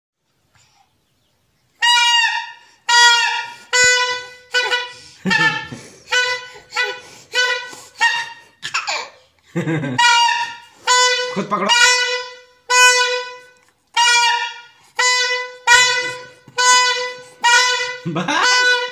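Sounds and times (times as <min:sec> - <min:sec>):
toy horn tooting: 0:01.8 - 0:09.0, 0:10.0 - 0:18.9.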